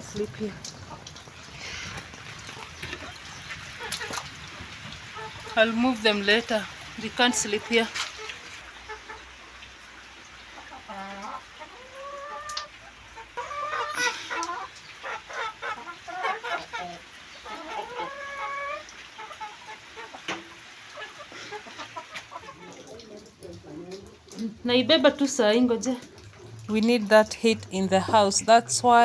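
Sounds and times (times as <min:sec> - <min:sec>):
chickens clucking: 0:00.6 - 0:09.7, 0:10.3 - 0:29.0.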